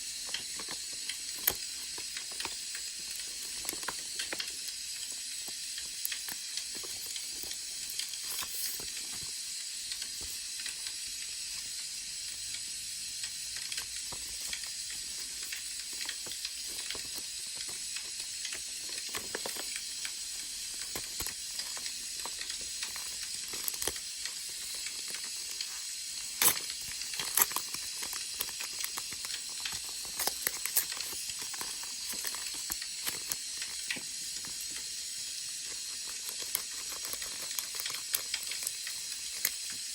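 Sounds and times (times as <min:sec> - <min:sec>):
firewood hissing and crackling: 0:00.0 - 0:39.9.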